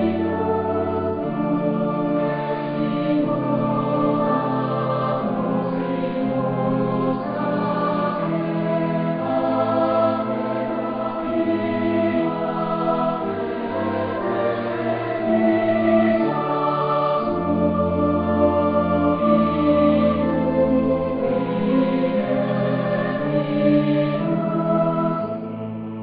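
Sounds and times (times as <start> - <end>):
choir singing held chords: 0.0 - 26.0.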